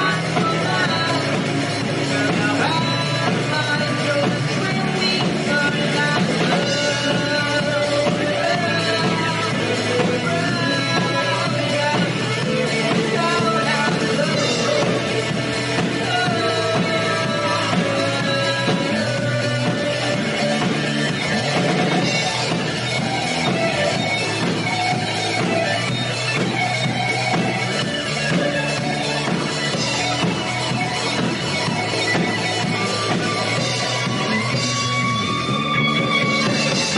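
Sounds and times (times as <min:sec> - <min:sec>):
person singing: 0:00.0 - 0:36.9
rock band playing live: 0:00.0 - 0:36.9.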